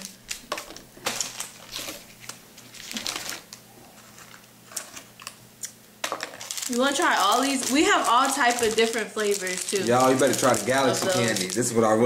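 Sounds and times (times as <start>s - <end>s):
plastic wrappers crinkling: 0.0s - 5.4s, 6.0s - 12.0s.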